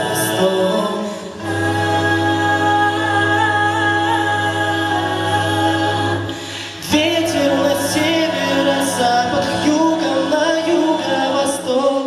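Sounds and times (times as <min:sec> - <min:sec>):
vocal ensemble singing a cappella: 0:00.0 - 0:12.0.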